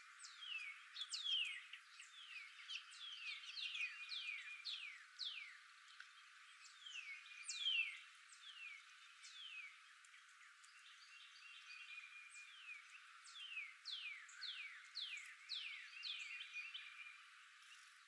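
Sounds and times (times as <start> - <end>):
small birds whistling: 0.2 - 18.0.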